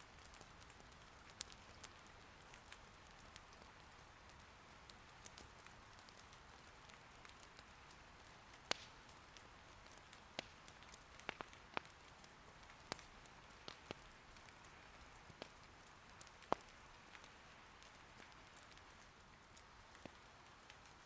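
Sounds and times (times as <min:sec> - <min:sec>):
rain hiss: 0:00.0 - 0:21.0
wood fire crackling: 0:00.0 - 0:21.0.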